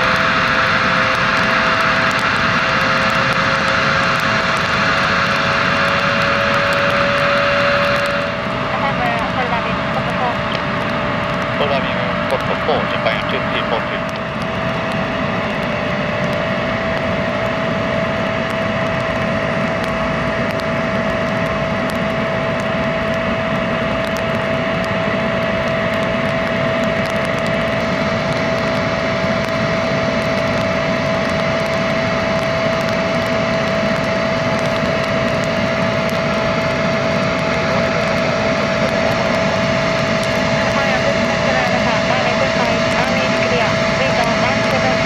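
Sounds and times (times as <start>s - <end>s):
constant rushing noise: 0.0s - 45.0s
jet engine whine: 0.0s - 45.0s.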